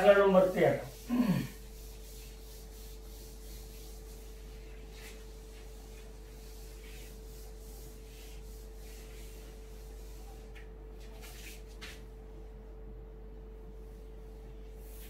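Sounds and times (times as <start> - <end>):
duster wiping a whiteboard: 0.0 - 12.7, 13.6 - 15.0
faint electrical hum: 0.0 - 15.0.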